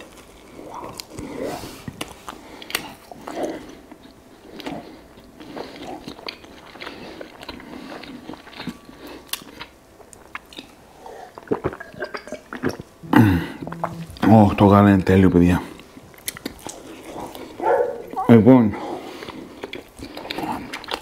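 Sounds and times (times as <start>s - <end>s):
chewing bread: 0.0s - 13.0s, 15.8s - 21.0s.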